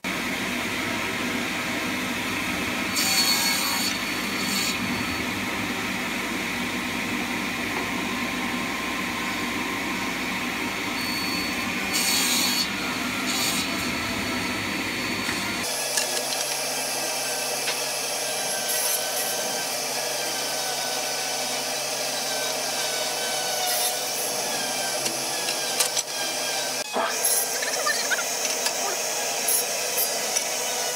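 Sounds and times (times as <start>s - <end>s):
table saw cutting wood: 0.0s - 30.9s.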